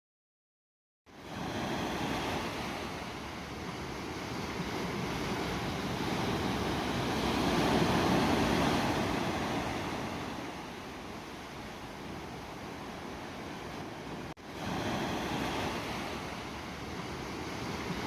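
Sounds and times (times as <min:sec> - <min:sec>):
sea surf washing on shore: 0:01.1 - 0:18.0.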